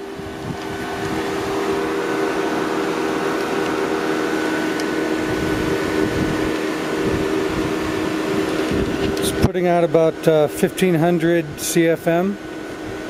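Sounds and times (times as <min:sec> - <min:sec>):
fan blowing air: 0:00.0 - 0:13.0
fan motor hum: 0:00.0 - 0:13.0.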